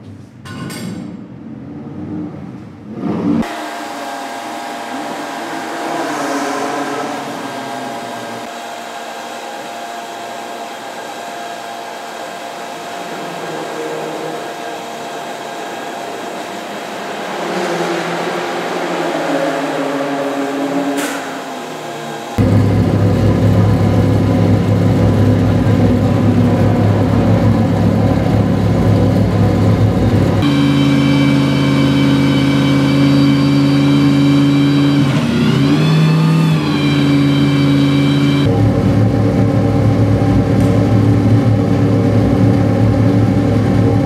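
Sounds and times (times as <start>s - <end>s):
lower sound cutting off: 2.3s - 44.0s
fan whirring: 2.5s - 44.0s.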